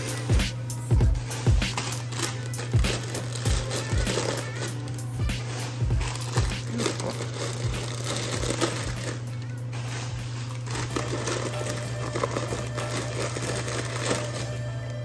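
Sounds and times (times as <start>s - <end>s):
foil snack bags crinkling: 0.0s - 15.0s
steady low hum: 0.0s - 15.0s.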